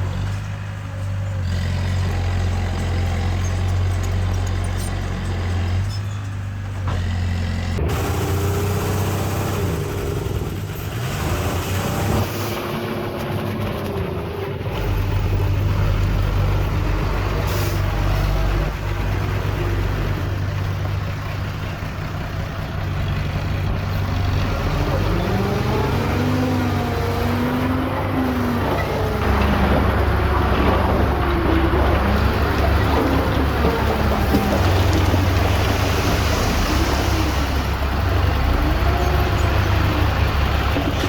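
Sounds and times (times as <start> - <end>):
earthmoving machinery diesel engines: 0.0 - 41.0.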